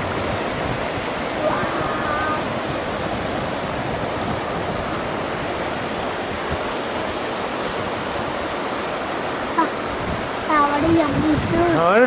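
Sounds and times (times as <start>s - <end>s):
river rapids rushing over rocks: 0.0s - 12.0s.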